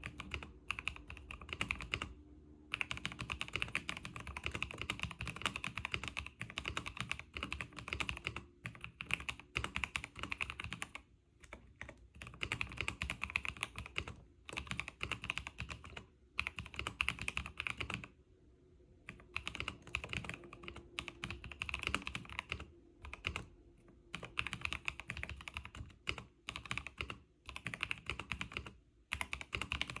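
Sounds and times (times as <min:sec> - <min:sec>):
mechanical keyboard typing: 0:00.0 - 0:18.2, 0:19.1 - 0:30.0.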